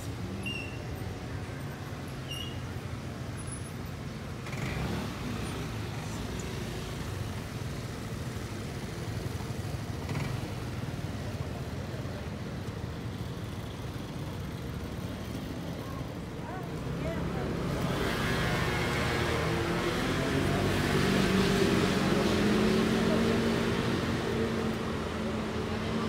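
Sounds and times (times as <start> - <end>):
road traffic hum: 0.0 - 26.0
vehicles passing: 0.0 - 26.0.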